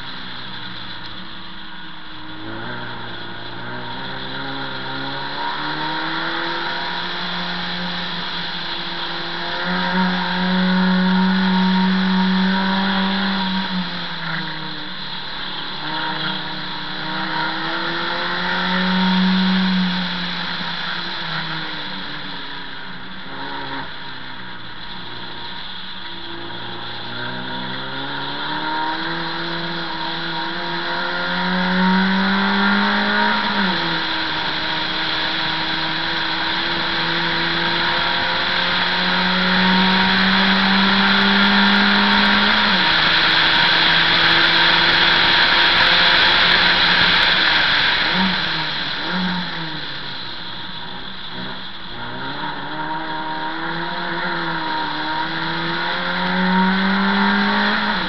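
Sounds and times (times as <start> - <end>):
race car engine revving: 0.0 - 58.0
road and wind noise: 0.0 - 58.0.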